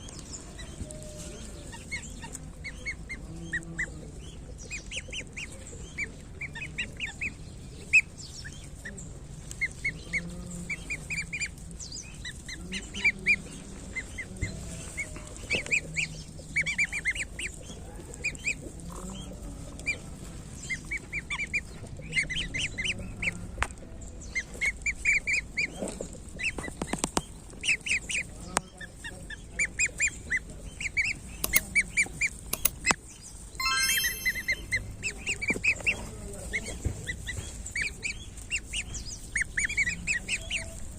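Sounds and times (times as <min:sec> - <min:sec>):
goslings peeping: 0:00.0 - 0:23.5, 0:24.2 - 0:40.9.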